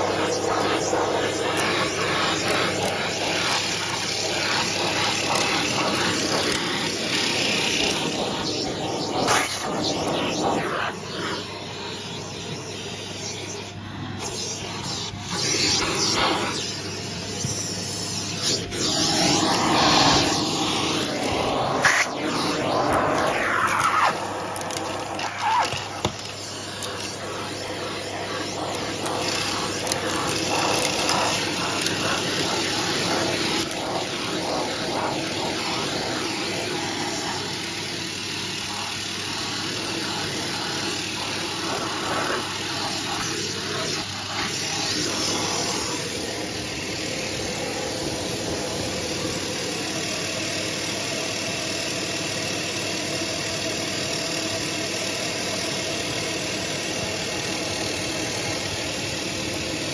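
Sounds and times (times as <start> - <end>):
debris crackling in vacuum nozzle: 0.0 - 49.4
vacuum cleaner running: 0.0 - 59.9.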